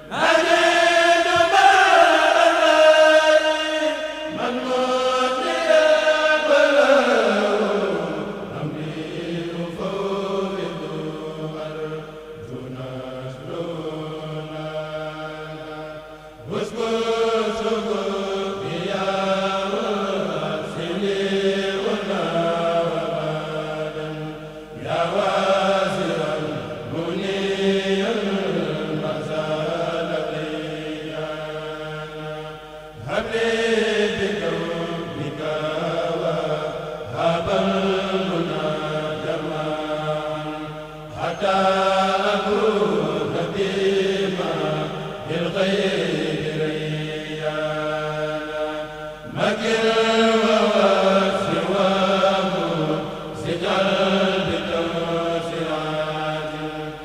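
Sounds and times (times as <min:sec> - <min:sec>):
men chanting unaccompanied: 0:00.0 - 0:57.0.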